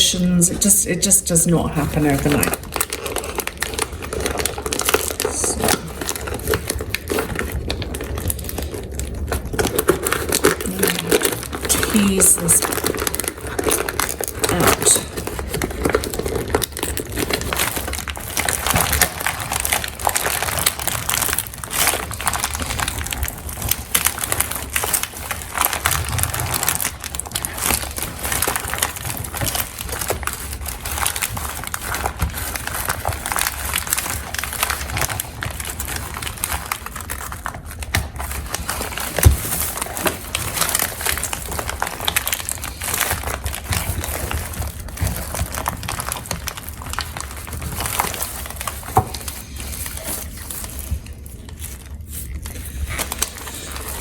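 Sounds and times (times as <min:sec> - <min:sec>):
plastic film crinkling: 0:00.0 - 0:54.0.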